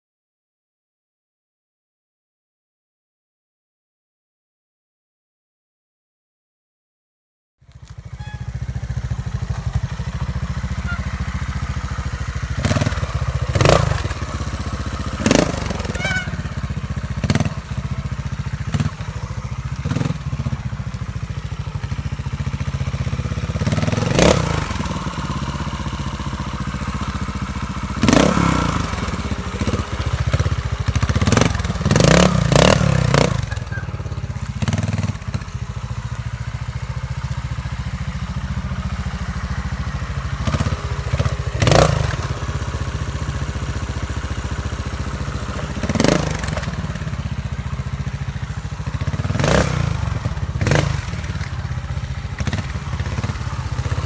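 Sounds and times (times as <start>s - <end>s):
motorcycle engine with throttle blips: 7.6s - 54.0s.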